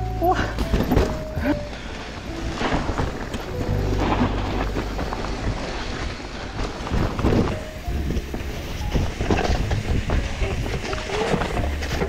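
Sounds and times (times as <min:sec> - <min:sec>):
mountain bike rumble and rattle: 0:00.0 - 0:12.0.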